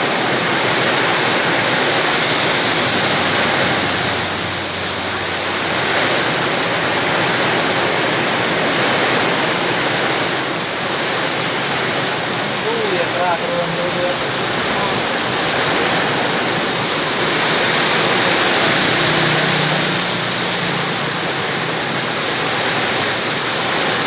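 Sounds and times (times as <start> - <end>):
strong wind rushing: 0.0 - 24.0.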